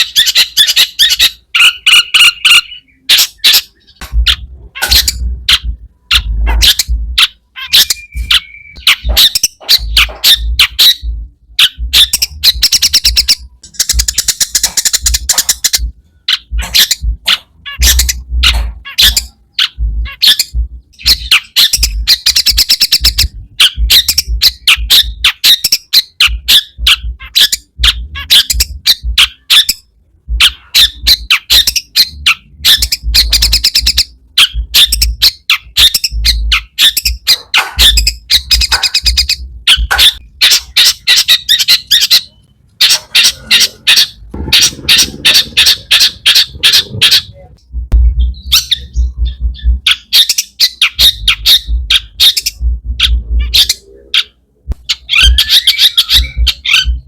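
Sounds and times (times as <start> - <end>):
bird singing harsh trills: 0.0 - 57.0.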